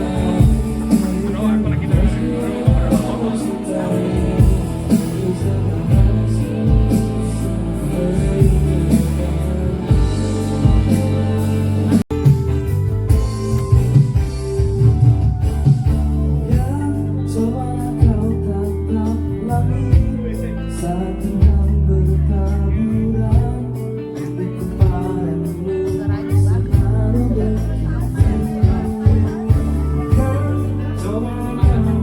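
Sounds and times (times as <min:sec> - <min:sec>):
live band music with singing: 0:00.0 - 0:32.0.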